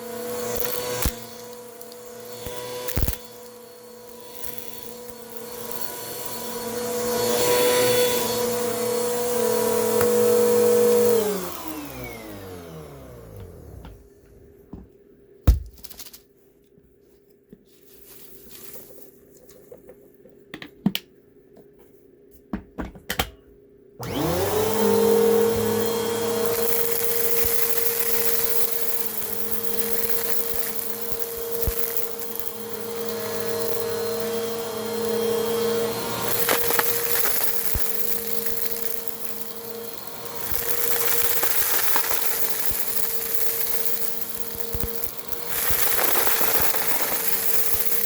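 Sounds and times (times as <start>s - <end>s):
vacuum cleaner motor whine: 0.0s - 14.6s, 24.0s - 48.0s.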